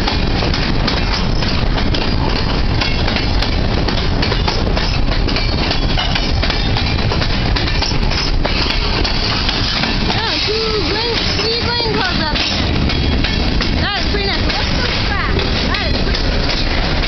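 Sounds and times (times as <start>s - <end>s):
clicks and clanks of train cars: 0.0s - 17.0s
train wheels rumbling on rail: 0.0s - 17.0s.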